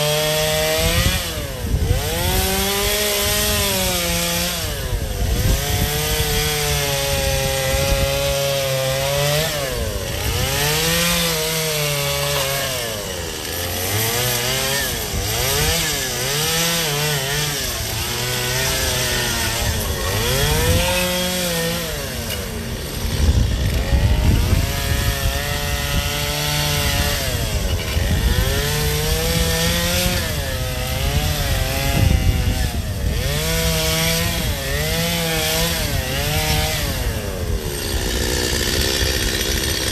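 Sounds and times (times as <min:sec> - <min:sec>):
chainsaw cutting ice: 0:00.0 - 0:39.9.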